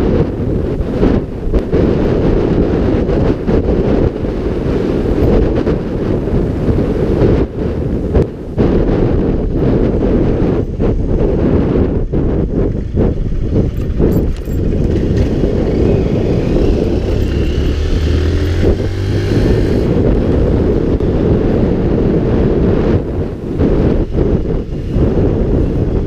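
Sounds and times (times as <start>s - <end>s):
road and engine noise: 0.0s - 26.0s
wind buffeting microphone: 0.0s - 26.0s.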